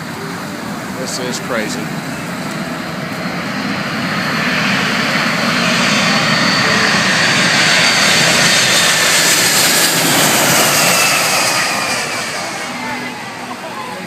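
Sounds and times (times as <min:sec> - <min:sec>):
jet airliner passing low overhead: 0:00.0 - 0:14.0.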